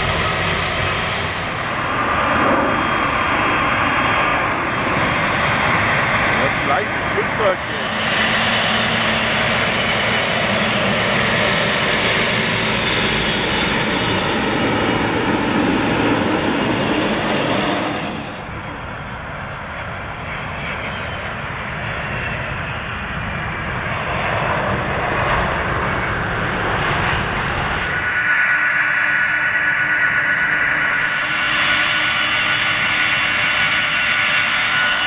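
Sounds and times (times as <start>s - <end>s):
jet airliner rolling on runway: 0.0s - 35.0s
jet engines roaring with high whine: 0.0s - 35.0s.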